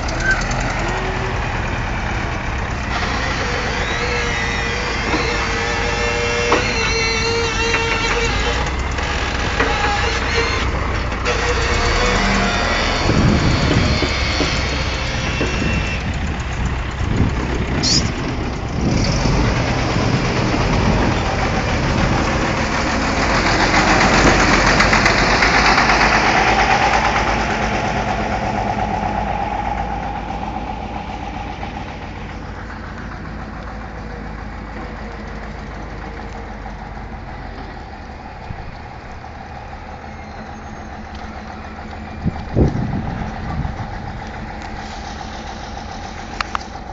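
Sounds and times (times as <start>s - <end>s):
heavy machinery engine running: 0.0s - 46.9s.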